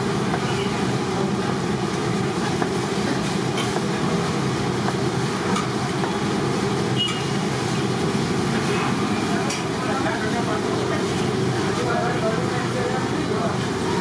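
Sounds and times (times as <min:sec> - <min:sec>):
low rumbling food stall noise: 0:00.0 - 0:14.0.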